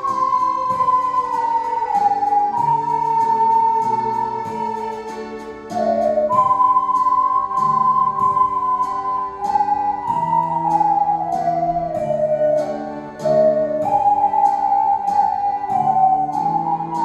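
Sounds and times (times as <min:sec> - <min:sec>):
chordal accompaniment with struck notes: 0:00.0 - 0:17.0
ocarinas playing a slow melody: 0:00.0 - 0:17.0.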